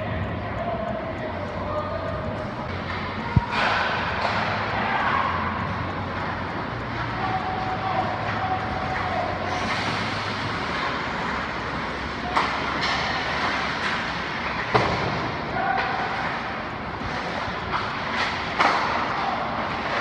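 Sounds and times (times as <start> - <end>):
steady low hum: 0.0 - 20.0
skate blades scraping ice: 2.4 - 20.0.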